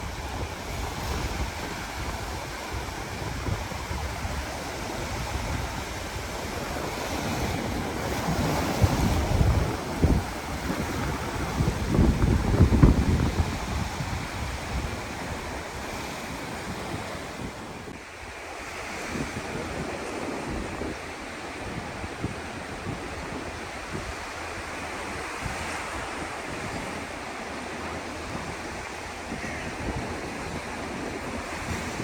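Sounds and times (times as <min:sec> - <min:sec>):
sea surf washing on beach: 0:00.0 - 0:32.0
wind buffeting microphone: 0:00.0 - 0:32.0.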